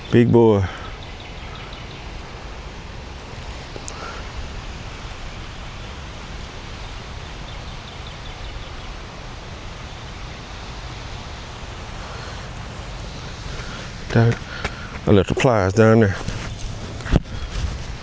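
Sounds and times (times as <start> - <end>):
wind buffeting microphone: 0.9 - 18.0.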